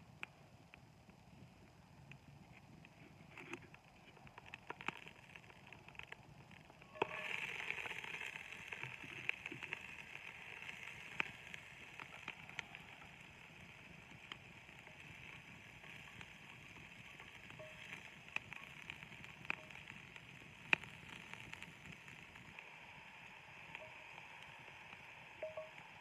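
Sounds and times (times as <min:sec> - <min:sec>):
onions sizzling in a pot: 0:04.3 - 0:26.0.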